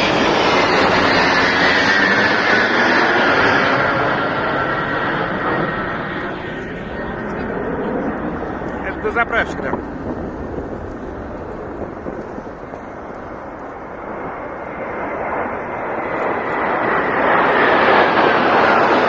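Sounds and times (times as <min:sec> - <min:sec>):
faint engine whine: 0:00.0 - 0:19.0
jet aircraft flying over: 0:00.0 - 0:19.0.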